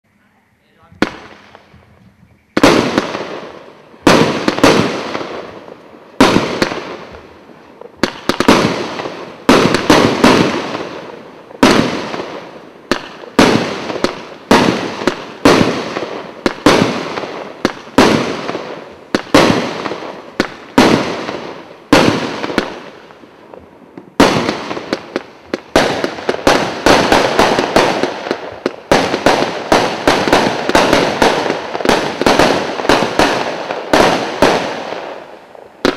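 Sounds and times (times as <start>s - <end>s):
fireworks banging: 0.2s - 35.9s.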